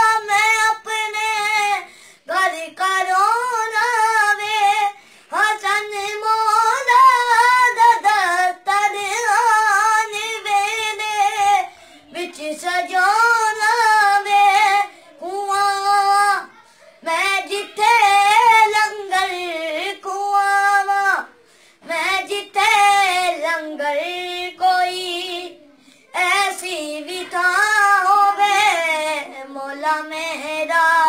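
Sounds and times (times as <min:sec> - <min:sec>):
boy singing unaccompanied: 0:00.0 - 0:31.0.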